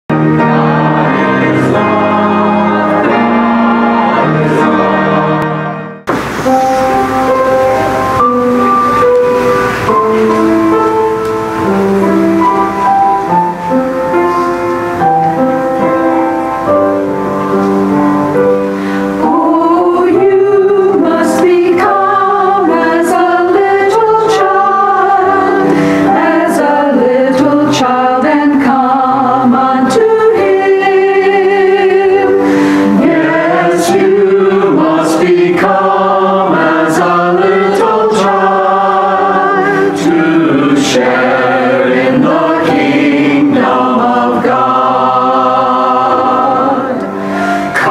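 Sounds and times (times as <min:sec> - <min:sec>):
choir singing: 0:00.1 - 0:14.4, 0:16.9 - 0:47.9
held instrumental chords: 0:00.1 - 0:47.9.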